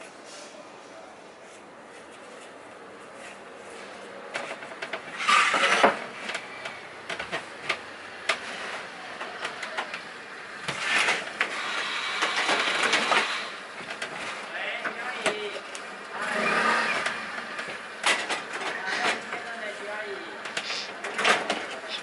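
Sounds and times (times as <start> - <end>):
wood scraping: 1.4 - 22.0.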